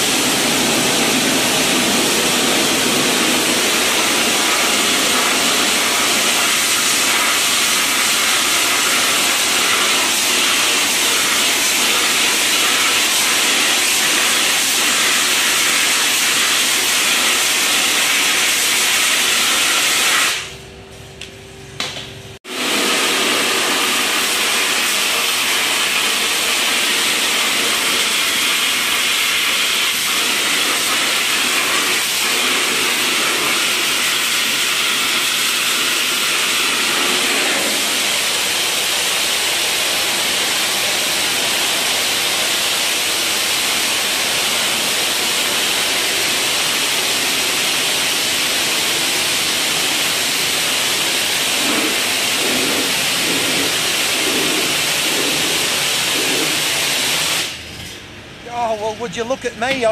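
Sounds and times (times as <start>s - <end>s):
pressure washer spraying concrete: 0.0s - 20.6s, 22.4s - 57.6s.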